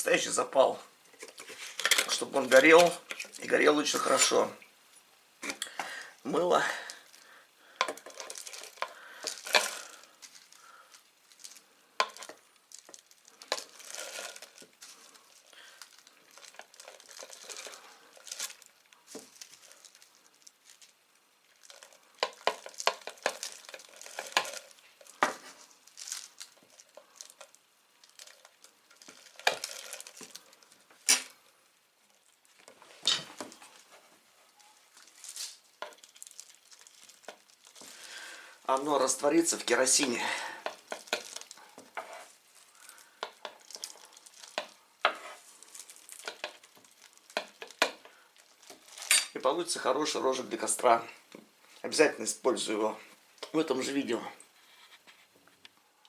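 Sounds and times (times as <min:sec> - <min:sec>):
soap crinkling and scraping: 0:01.1 - 0:04.7, 0:05.4 - 0:31.4, 0:32.1 - 0:52.0.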